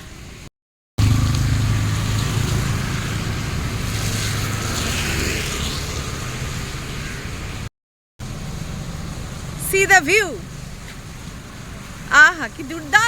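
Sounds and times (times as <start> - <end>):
road hiss: 0.0 - 13.0
vehicle driving low rumble: 0.0 - 13.0.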